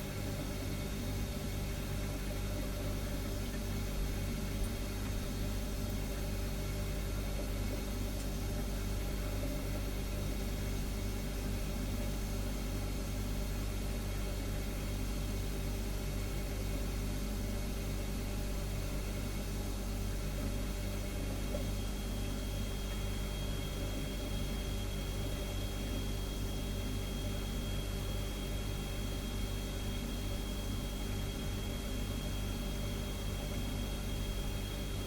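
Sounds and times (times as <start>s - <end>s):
refrigerator humming: 0.0s - 35.0s.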